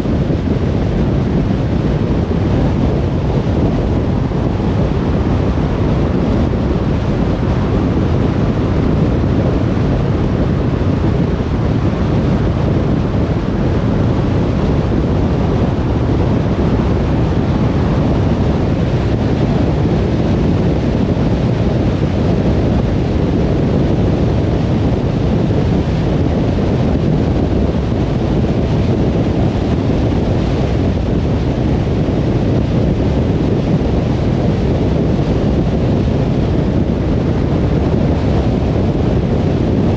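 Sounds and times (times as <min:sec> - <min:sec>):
car driving on motorway: 0:00.0 - 0:39.9.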